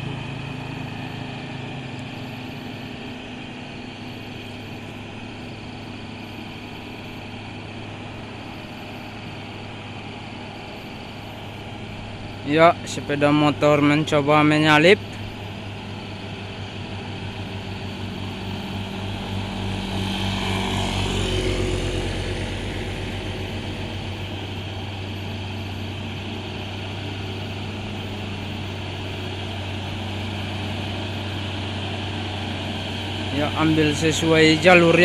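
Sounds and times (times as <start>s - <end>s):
truck diesel engine labouring: 0.0s - 35.0s.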